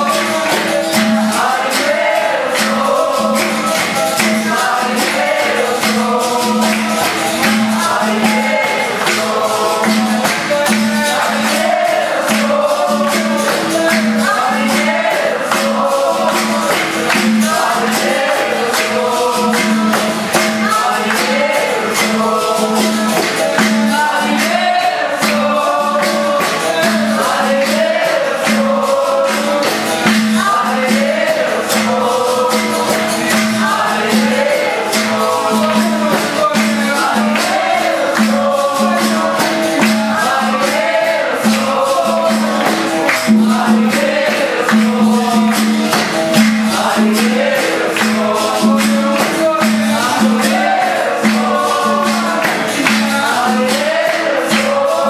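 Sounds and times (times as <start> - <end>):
group singing: 0.0 - 55.0
hand drum rhythm: 0.0 - 55.0
tambourine jingles: 0.0 - 55.0.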